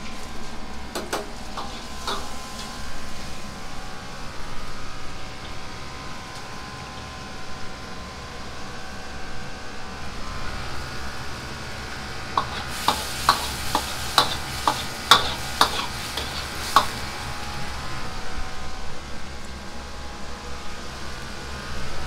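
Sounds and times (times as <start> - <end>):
gas burner rushing: 0.0 - 7.8, 10.0 - 22.0.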